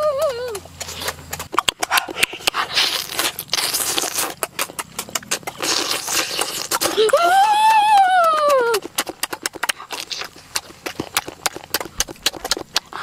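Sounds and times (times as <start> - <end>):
chewing chicken wing: 0.0 - 13.0.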